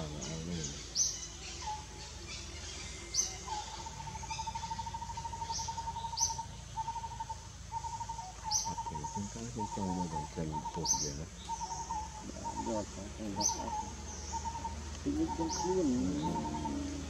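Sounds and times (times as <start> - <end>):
bird chirps: 0.0 - 17.0
bird trilling on one pitch: 3.2 - 17.0.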